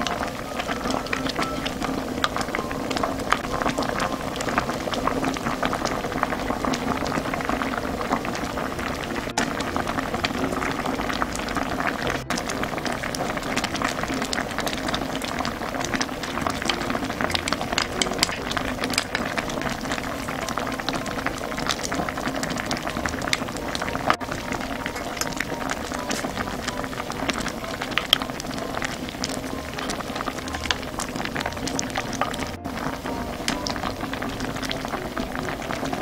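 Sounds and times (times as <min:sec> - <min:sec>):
stew bubbling in a pot: 0:00.0 - 0:36.0.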